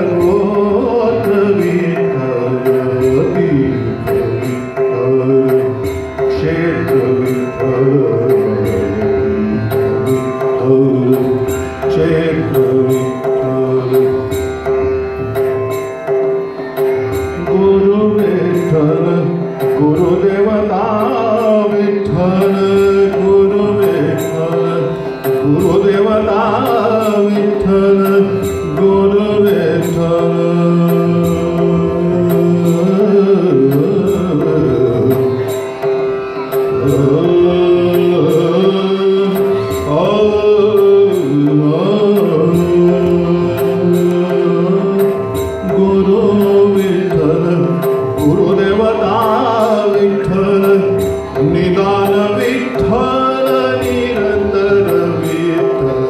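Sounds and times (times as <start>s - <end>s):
man singing slow melodic song: 0.0s - 14.4s, 17.4s - 35.4s, 36.8s - 56.0s.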